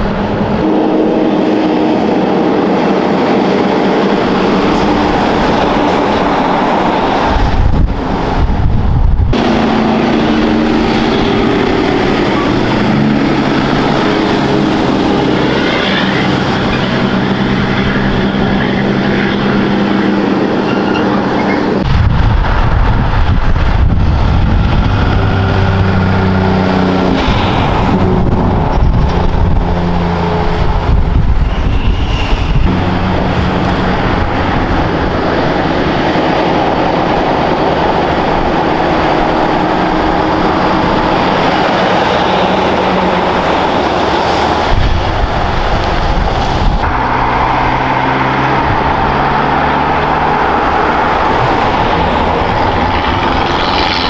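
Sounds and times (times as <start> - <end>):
heavy truck diesel engines: 0.0 - 54.0.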